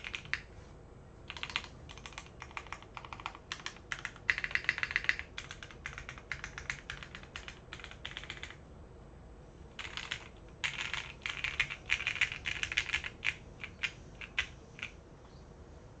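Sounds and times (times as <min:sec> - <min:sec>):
mechanical keyboard typing: 0:00.0 - 0:00.5, 0:01.3 - 0:08.6, 0:09.8 - 0:15.0.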